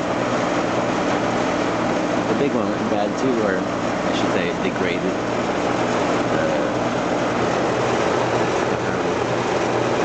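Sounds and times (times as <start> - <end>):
compressor low hum: 0.0 - 10.0
fan rush of air: 0.0 - 10.0.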